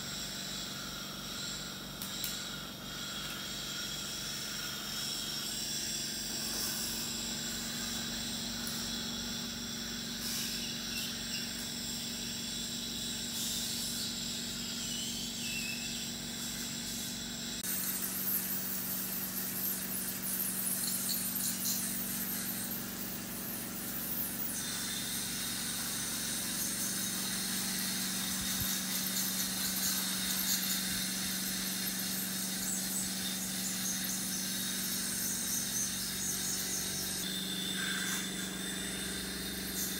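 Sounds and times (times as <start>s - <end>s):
dental suction hissing: 0.0s - 39.9s
high-pitched equipment whine: 0.0s - 39.9s
low equipment hum: 0.0s - 39.9s.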